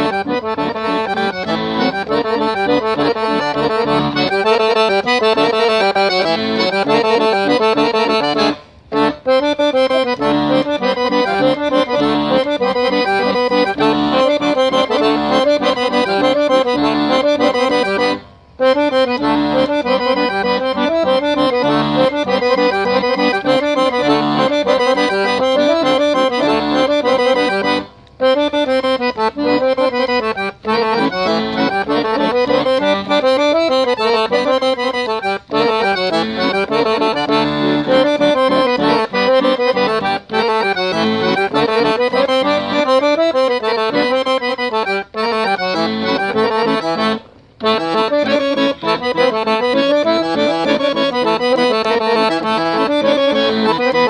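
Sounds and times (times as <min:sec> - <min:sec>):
piano accordion playing a tune: 0:00.0 - 0:54.0.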